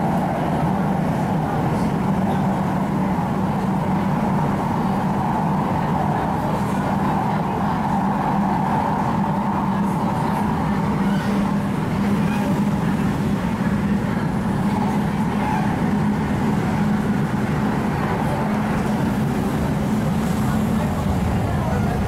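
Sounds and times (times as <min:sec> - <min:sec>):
train interior rumble: 0:00.0 - 0:22.0.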